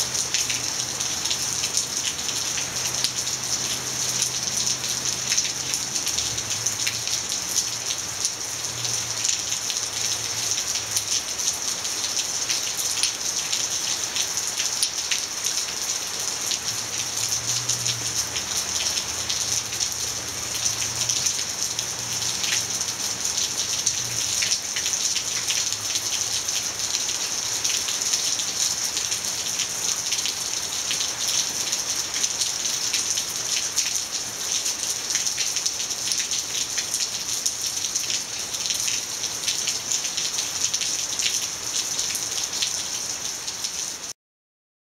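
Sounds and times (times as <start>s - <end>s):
raindrops ticking on a surface: 0.0s - 43.9s
steady rain falling: 0.0s - 44.1s.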